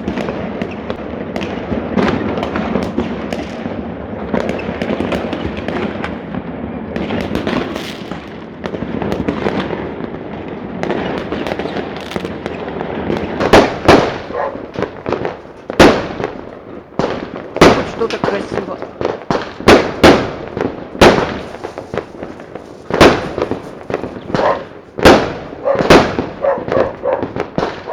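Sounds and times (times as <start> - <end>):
fireworks crackling and popping: 0.0 - 27.9
loud firework bangs: 0.0 - 27.9.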